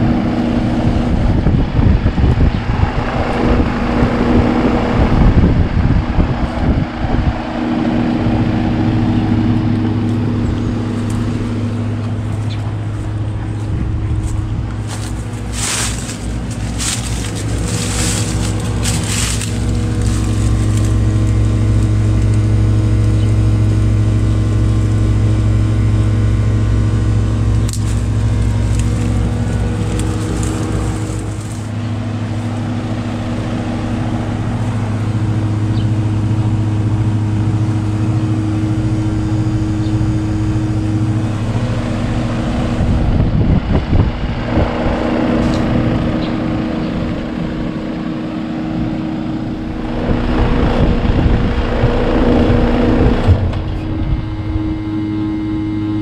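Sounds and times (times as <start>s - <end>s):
heat pump humming: 0.0s - 56.0s
rush of fan air: 0.0s - 56.0s.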